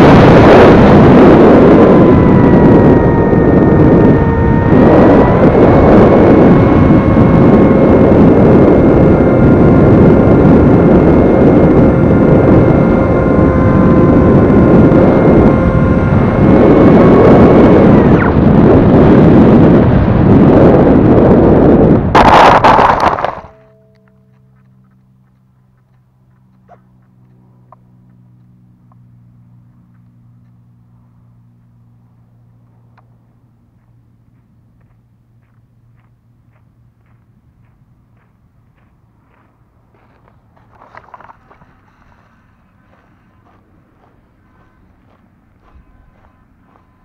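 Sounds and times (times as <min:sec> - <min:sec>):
electric motor whine: 0:00.0 - 0:37.7, 0:39.3 - 0:47.0
faint hum: 0:00.0 - 0:47.0
plane landing in tall grass: 0:00.0 - 0:47.0
wind rushing over camera: 0:00.0 - 0:47.0.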